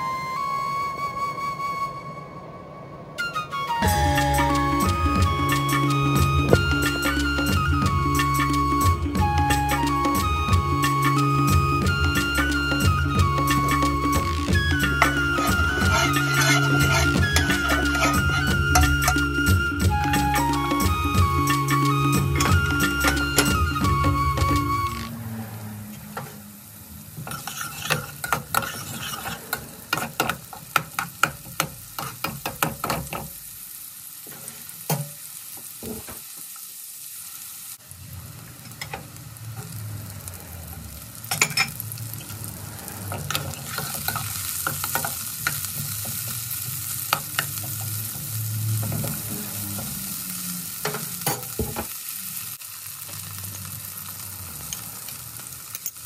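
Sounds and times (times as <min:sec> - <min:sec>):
curry sizzling in a pan: 0:03.9 - 0:56.0.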